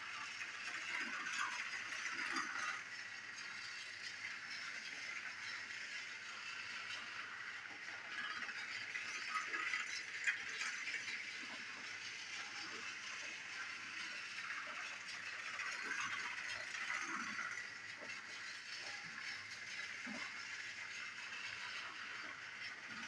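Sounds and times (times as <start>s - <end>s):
toy tram motor whirring: 0.0s - 23.0s.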